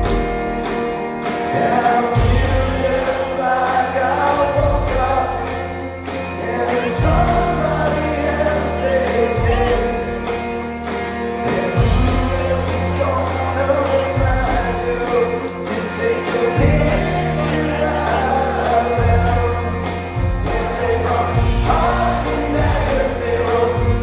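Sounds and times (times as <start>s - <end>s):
live rock band playing: 0.0s - 24.0s
sustained bass notes: 0.0s - 24.0s
person singing: 1.5s - 10.5s, 11.4s - 24.0s.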